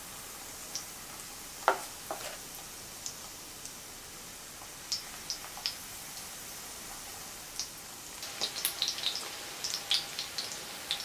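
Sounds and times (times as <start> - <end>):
fritters sizzling in oil: 0.0 - 11.0.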